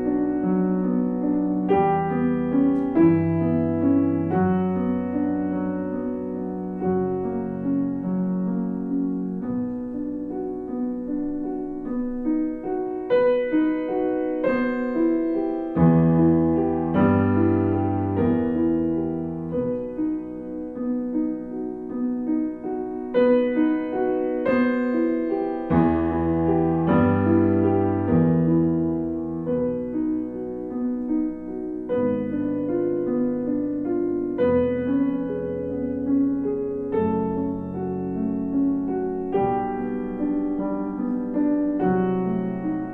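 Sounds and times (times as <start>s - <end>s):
gentle piano music: 0.0s - 42.9s.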